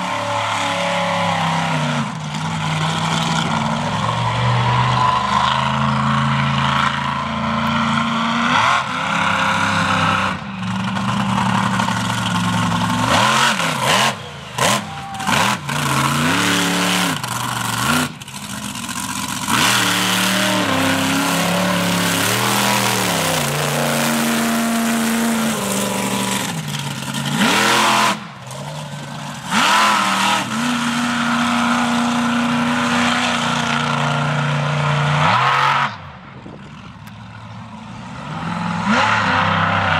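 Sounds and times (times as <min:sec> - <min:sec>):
monster truck engines revving: 0:00.0 - 0:39.9.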